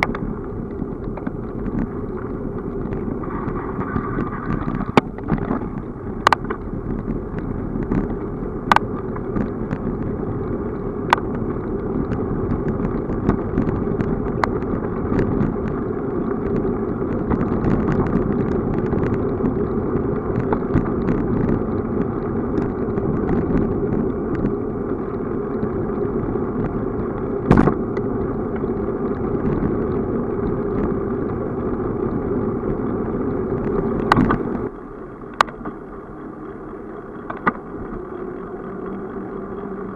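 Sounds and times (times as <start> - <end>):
bicycle rolling on rough asphalt: 0.0 - 39.9.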